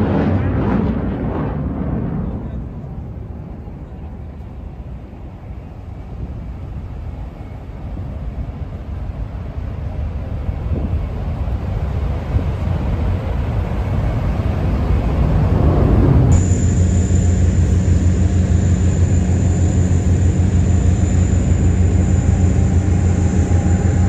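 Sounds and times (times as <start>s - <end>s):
jet engines rumbling overhead: 0.0s - 24.0s.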